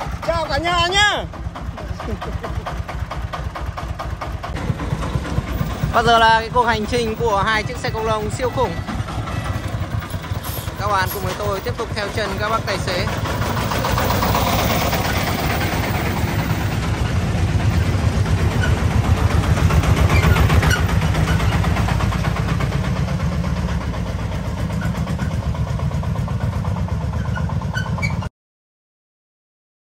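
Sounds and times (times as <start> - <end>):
diesel trucks chugging past: 0.0 - 28.3.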